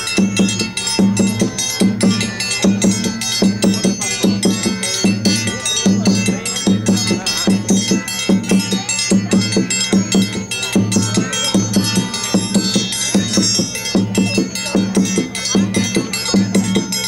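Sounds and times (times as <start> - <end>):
instrumental music with percussion beat: 0.0 - 17.0.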